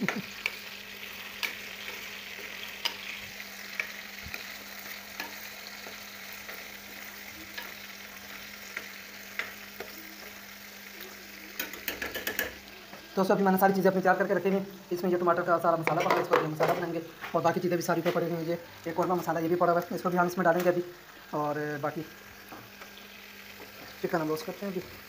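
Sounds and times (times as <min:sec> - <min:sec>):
chicken sizzling with pops: 0:00.0 - 0:25.0.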